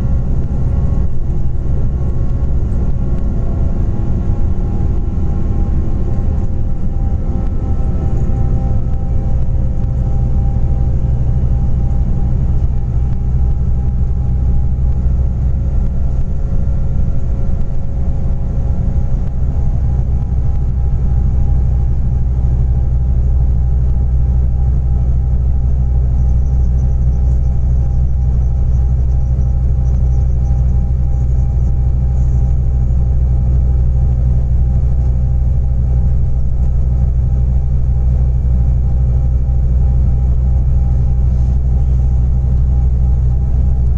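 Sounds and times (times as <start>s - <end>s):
deep engine and road rumble: 0.0s - 43.9s
faint steady whine: 0.0s - 43.9s.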